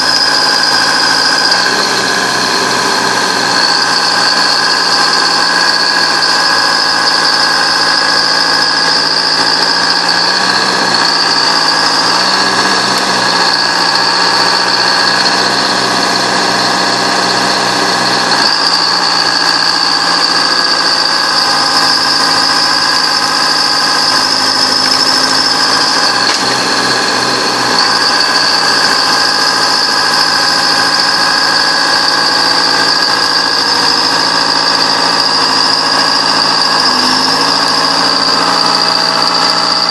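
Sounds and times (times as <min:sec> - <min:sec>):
bulldozer engine with high whine: 0:00.0 - 0:39.9.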